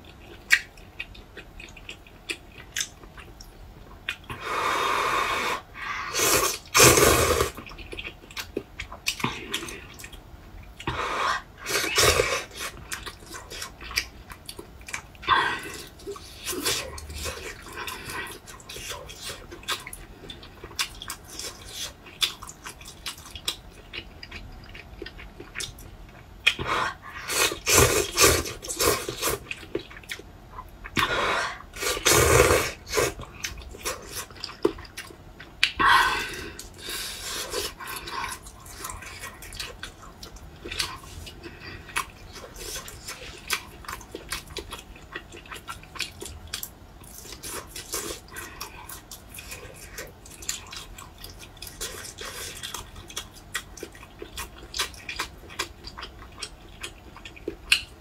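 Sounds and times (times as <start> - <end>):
wet chewing and lip-smacking: 0.0 - 4.4, 7.5 - 11.0, 11.6 - 35.8, 36.5 - 58.0.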